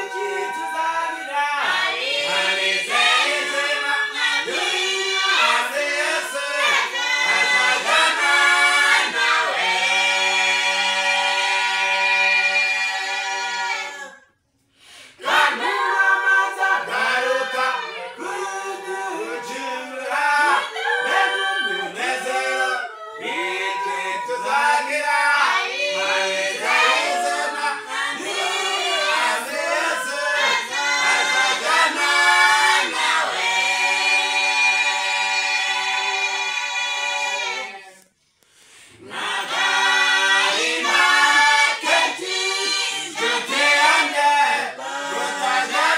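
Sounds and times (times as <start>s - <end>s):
group singing a cappella: 0.0s - 45.9s.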